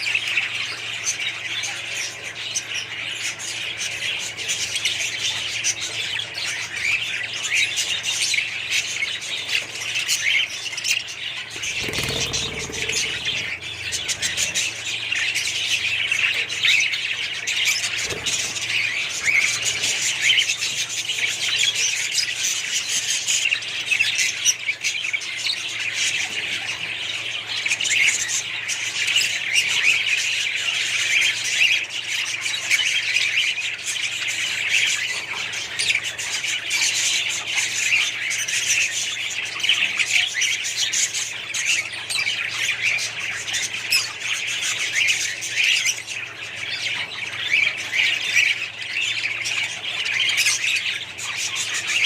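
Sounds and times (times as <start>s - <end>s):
flock of parrots chattering: 0.0s - 52.0s.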